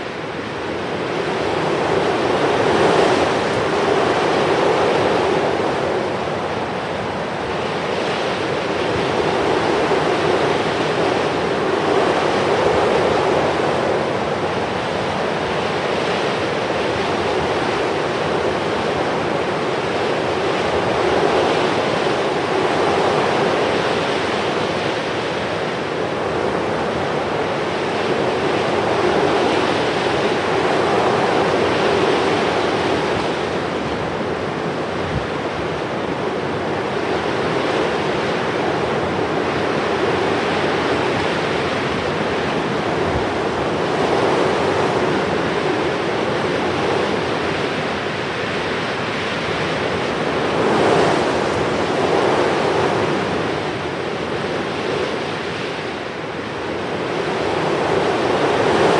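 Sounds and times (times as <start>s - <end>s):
sea waves rushing: 0.0s - 58.9s.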